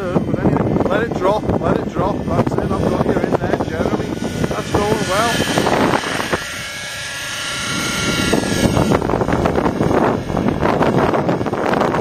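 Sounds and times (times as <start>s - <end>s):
model helicopter engine whine: 0.0s - 12.0s
wind buffeting microphone: 0.0s - 12.0s.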